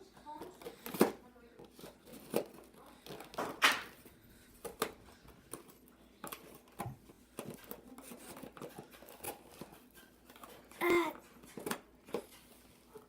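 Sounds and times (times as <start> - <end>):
plastic and cardboard packaging rustling: 0.0 - 13.0.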